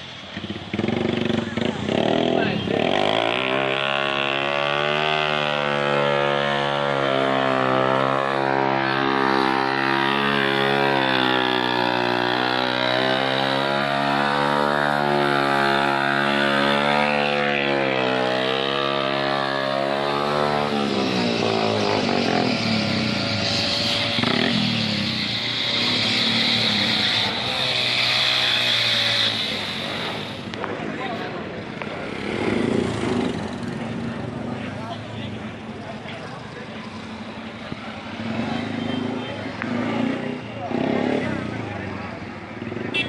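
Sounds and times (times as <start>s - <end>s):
crowd noise: 0.0s - 43.0s
motorcycle engine revving high: 0.4s - 35.8s, 36.4s - 43.0s.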